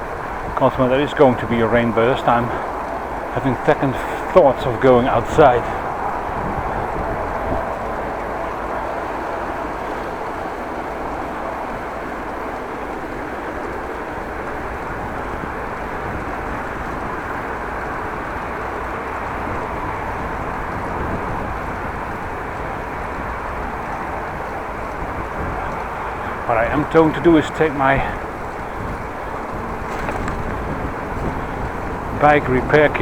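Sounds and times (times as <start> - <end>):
low wind buffeting rumble: 0.0 - 33.0
wind rushing on microphone: 0.0 - 33.0.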